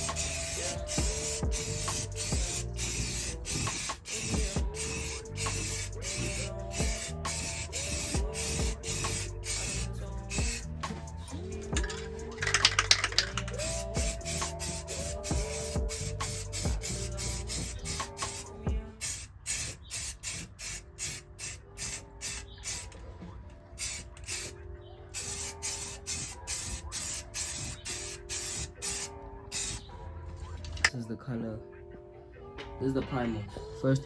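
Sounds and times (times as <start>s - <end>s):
background music with sliding bass: 0.0s - 23.0s, 23.8s - 30.9s
spray paint can hissing: 0.0s - 23.0s, 23.8s - 29.9s.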